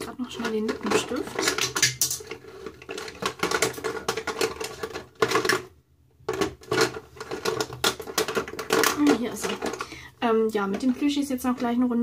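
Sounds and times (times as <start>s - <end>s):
make-up products clicking and rattling: 0.0s - 12.0s.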